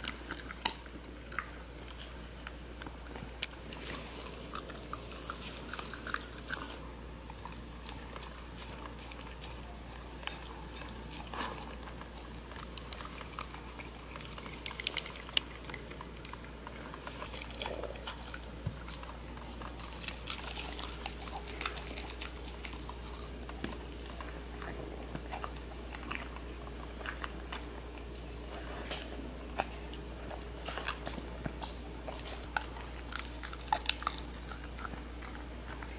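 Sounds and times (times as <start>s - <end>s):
dog chewing food: 0.0s - 35.9s.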